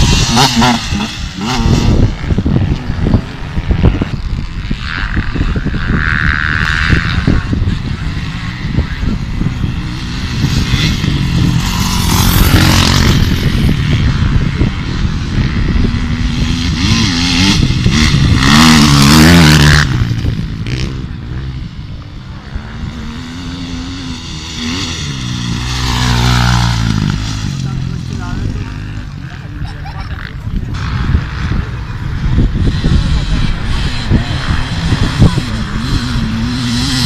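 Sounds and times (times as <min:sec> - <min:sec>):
dirt bikes revving past: 0:00.0 - 0:37.0.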